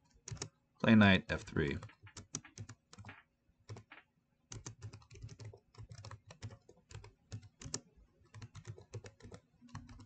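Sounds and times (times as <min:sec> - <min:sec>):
typing on computer keyboard: 0:00.0 - 0:00.6, 0:01.3 - 0:10.0.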